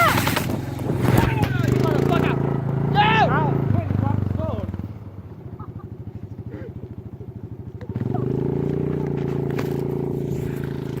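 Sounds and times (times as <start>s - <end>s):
small engine idling and revving: 0.0s - 11.0s.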